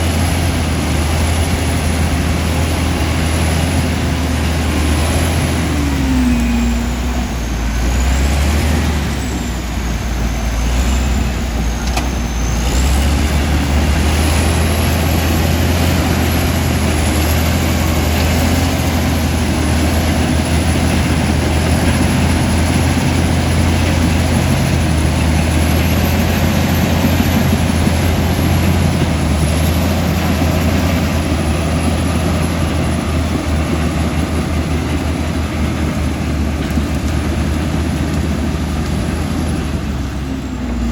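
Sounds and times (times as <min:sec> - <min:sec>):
high wavering whine: 0:00.0 - 0:37.4
bulldozer diesel engine running: 0:00.0 - 0:40.9.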